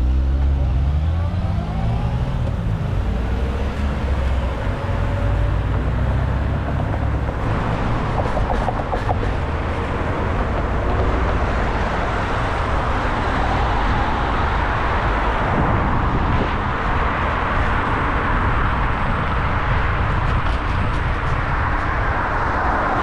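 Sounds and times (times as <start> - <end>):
city traffic: 0.0 - 23.0
road noise: 0.0 - 23.0
wind buffeting microphone: 1.3 - 23.0.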